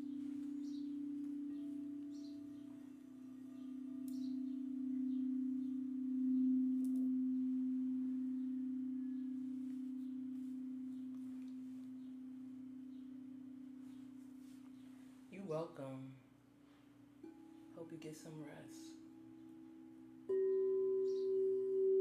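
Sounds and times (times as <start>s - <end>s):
singing bowl ringing: 0.0s - 15.4s, 18.5s - 22.0s.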